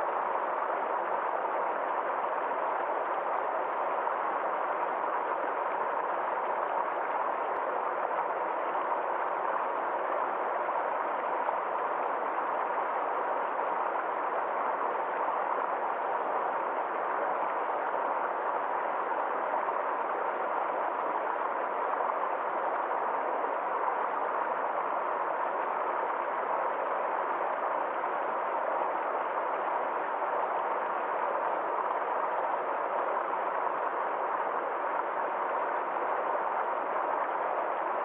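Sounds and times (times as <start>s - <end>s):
stream flowing over rocks: 0.1s - 38.0s.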